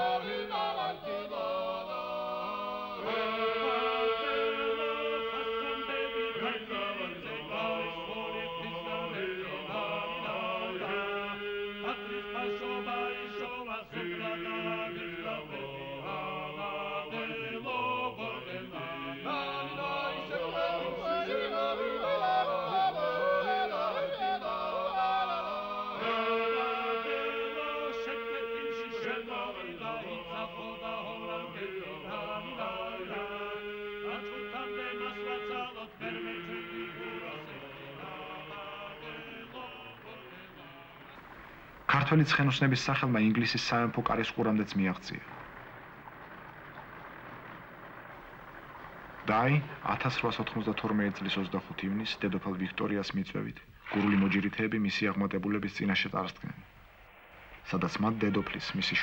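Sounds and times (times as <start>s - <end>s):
voices singing chant-like song: 0.0s - 54.4s.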